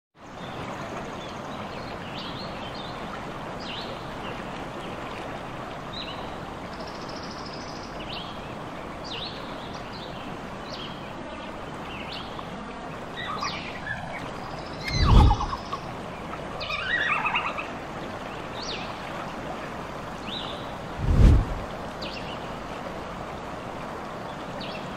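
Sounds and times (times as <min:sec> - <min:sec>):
running water hiss: 0:00.8 - 0:24.9.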